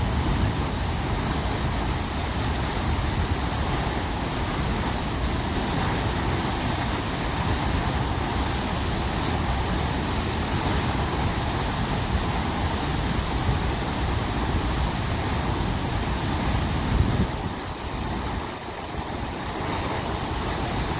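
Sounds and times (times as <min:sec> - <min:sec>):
waterfall roaring: 0:00.0 - 0:20.9.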